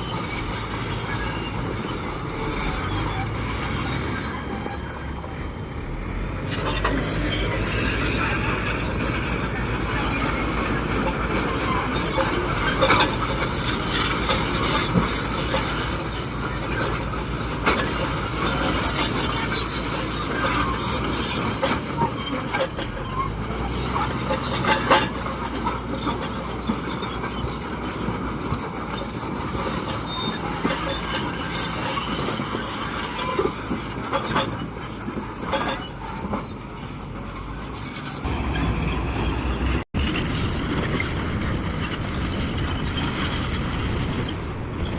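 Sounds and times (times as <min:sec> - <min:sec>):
bulldozer diesel engine rumbling: 0:00.0 - 0:44.9
steel tracks squealing and clanking: 0:00.0 - 0:44.9.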